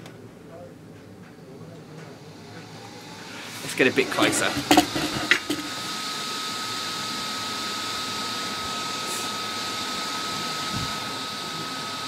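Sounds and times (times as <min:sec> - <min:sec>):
fan rush of air with whine: 0:00.0 - 0:12.0.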